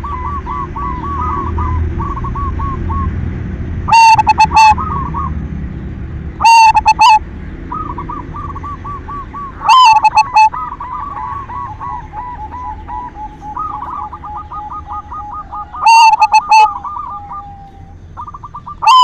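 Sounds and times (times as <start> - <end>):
loud close dove coos: 0.0 - 3.1, 3.9 - 5.4, 6.4 - 19.0
doves cooing: 0.0 - 19.0.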